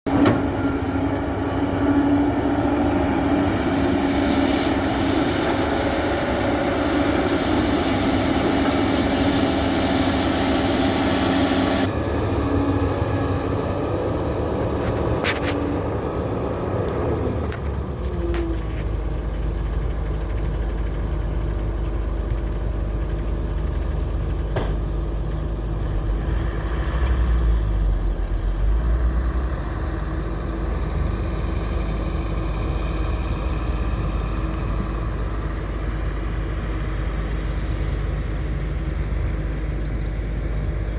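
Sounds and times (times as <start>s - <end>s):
construction machinery engines: 0.1s - 40.9s.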